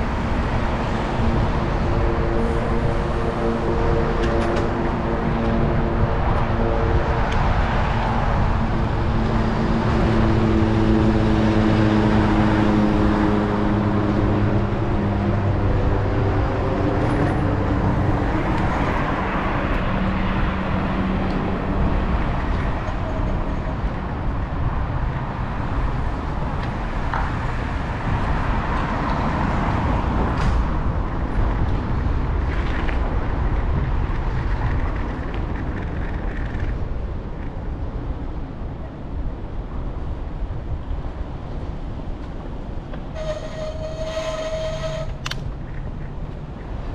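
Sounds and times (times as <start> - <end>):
road traffic: 0.0 - 46.9
wind buffeting microphone: 0.0 - 46.9.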